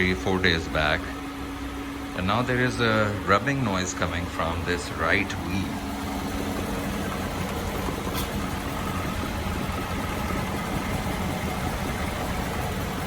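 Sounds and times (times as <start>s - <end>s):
car engine running: 0.0s - 13.0s
wheel rubbing noise: 2.3s - 13.0s.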